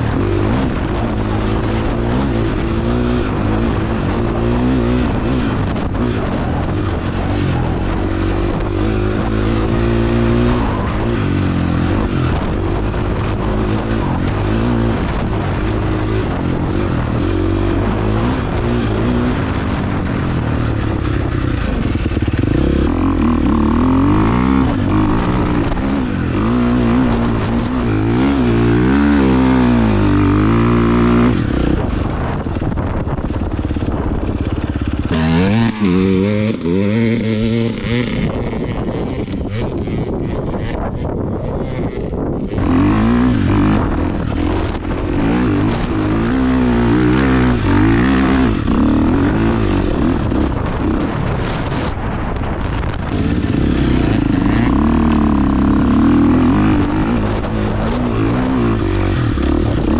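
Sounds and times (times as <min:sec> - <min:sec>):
dirt bike engine revving: 0:00.0 - 0:59.9
wind noise on microphone: 0:00.0 - 0:59.9.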